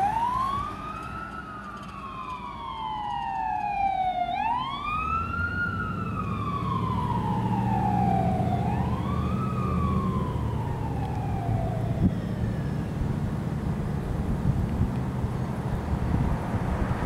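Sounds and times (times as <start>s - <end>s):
fire engine siren wailing: 0.0s - 17.0s
low rumble of traffic: 0.0s - 17.0s.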